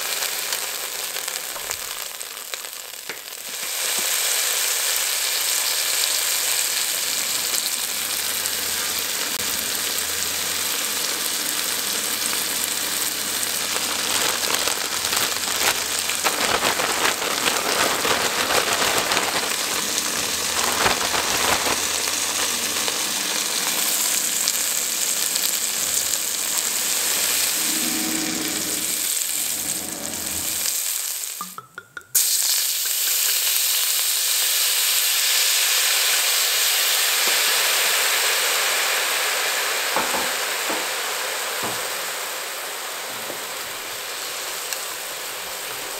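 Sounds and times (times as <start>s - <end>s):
meat sizzling in oil: 0.0s - 45.9s
wine hissing in hot pan: 0.0s - 45.9s.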